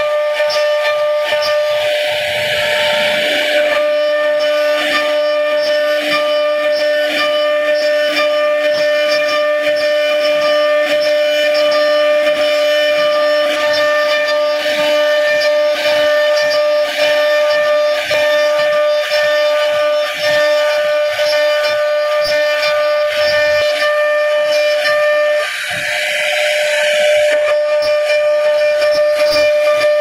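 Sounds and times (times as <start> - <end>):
router spindle whining: 0.0 - 30.0.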